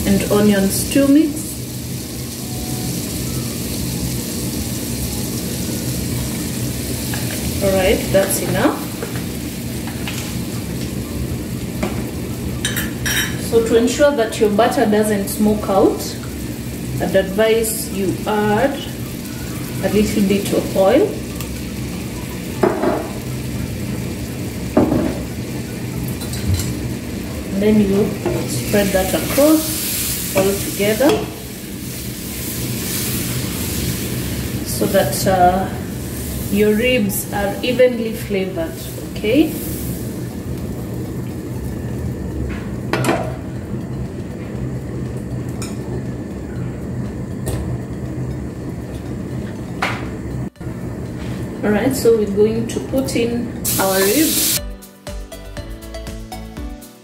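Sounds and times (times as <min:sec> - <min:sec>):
butter sizzling in a frying pan: 0:00.0 - 0:48.6, 0:51.6 - 0:54.6.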